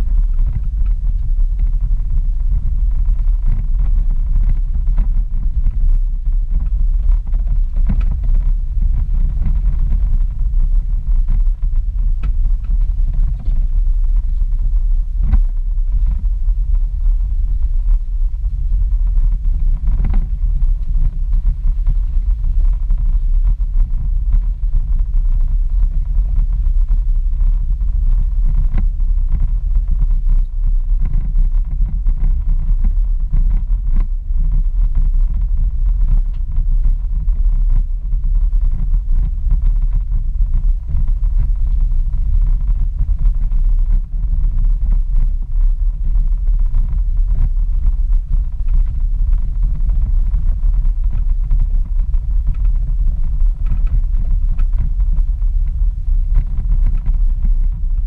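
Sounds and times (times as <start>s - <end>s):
truck engine and tyres rumbling: 0.0s - 58.0s.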